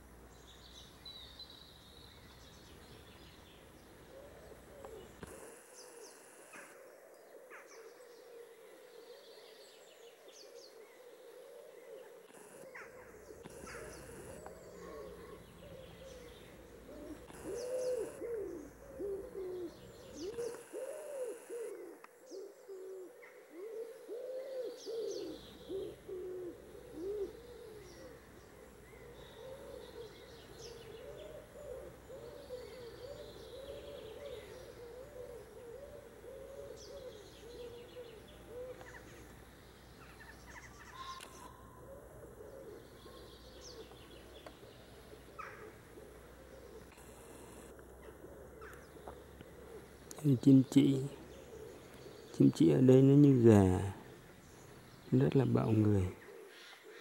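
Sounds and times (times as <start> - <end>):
low hooting bird calls: 0.0 - 57.0
small birds chirping: 0.0 - 57.0.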